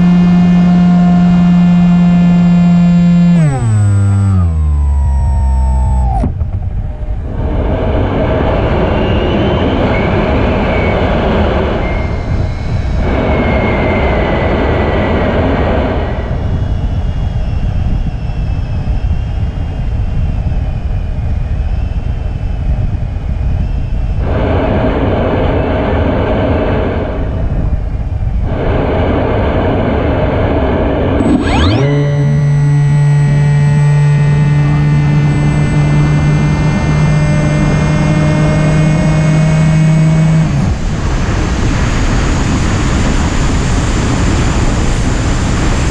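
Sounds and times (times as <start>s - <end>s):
motor and propeller whine: 0.0s - 45.9s
wind rushing over microphone: 3.5s - 45.9s.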